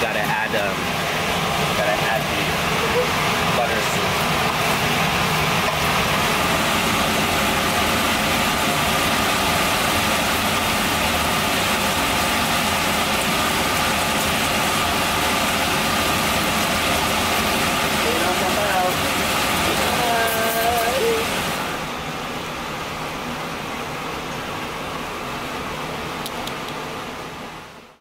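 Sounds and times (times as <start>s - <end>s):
fan or motor whirring hum: 0.0s - 28.0s.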